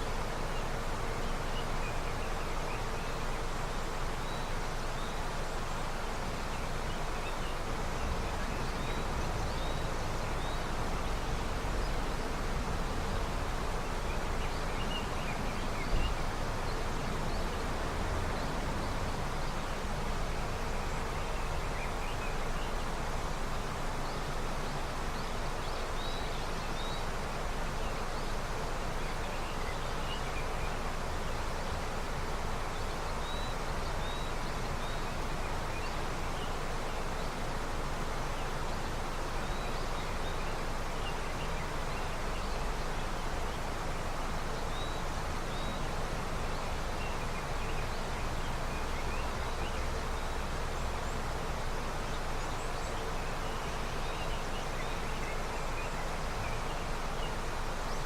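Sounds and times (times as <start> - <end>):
river running: 0.0 - 58.0.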